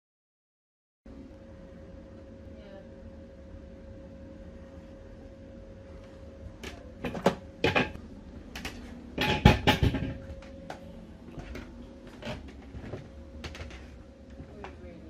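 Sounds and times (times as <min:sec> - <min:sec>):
faint steady hum: 0:01.1 - 0:15.0.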